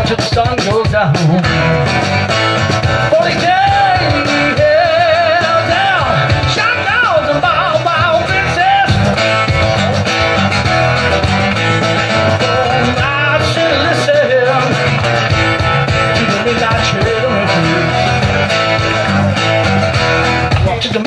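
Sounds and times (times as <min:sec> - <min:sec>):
small live band playing: 0:00.0 - 0:21.0
wavering bending guitar notes: 0:00.0 - 0:21.0.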